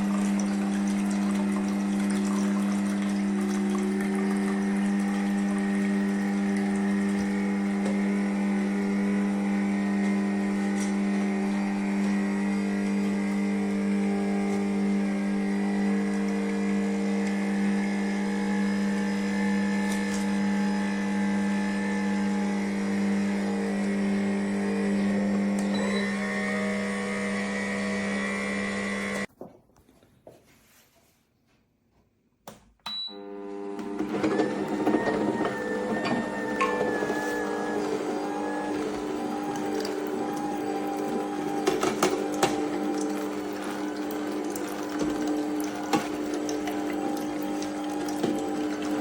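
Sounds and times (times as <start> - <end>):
juicer motor humming: 0.0 - 29.3, 32.9 - 49.0.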